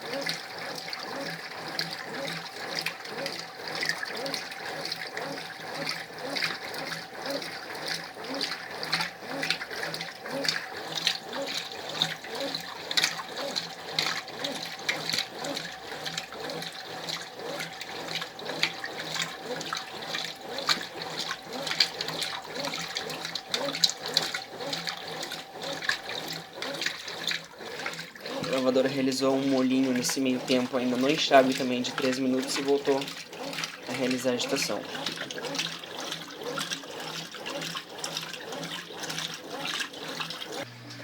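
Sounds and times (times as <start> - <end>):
faint motor hum: 0.0 - 41.0
washing machine water sloshing: 0.0 - 41.0.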